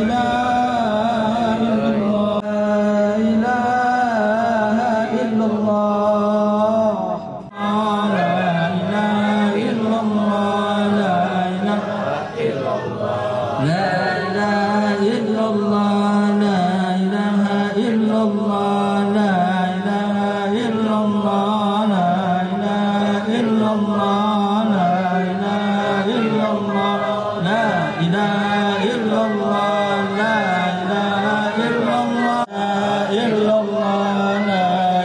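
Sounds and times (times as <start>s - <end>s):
men chanting in unison: 0.0s - 35.0s.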